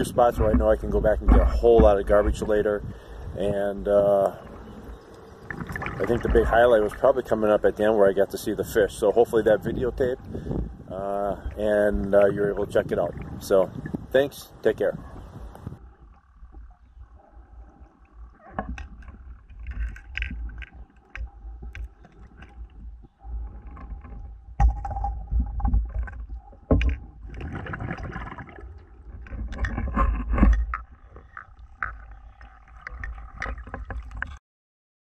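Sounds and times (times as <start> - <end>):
water bubbling underwater: 0.0 - 7.7, 9.6 - 14.1, 15.0 - 34.4.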